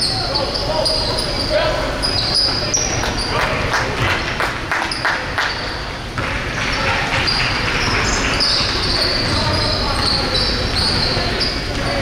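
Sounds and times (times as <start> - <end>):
shoe squeaks: 0.0 - 3.6, 4.8 - 12.0
crowd voices hubbub: 0.0 - 12.0.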